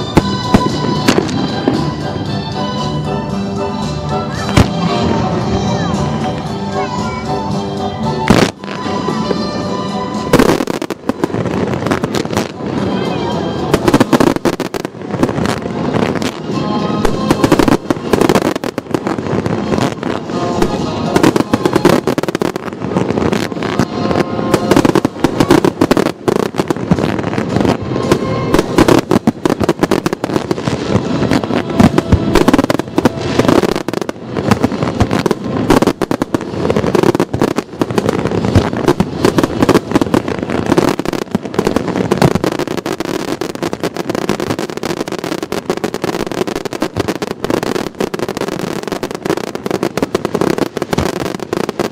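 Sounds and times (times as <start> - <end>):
fireworks crackling and popping: 0.0 - 51.9
music playing: 0.0 - 51.9.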